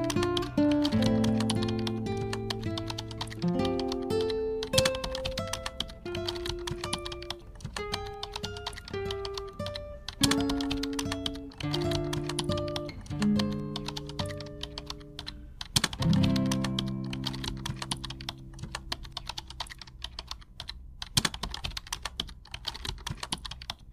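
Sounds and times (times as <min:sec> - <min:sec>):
rapid keyboard typing clicks: 0:00.0 - 0:23.9.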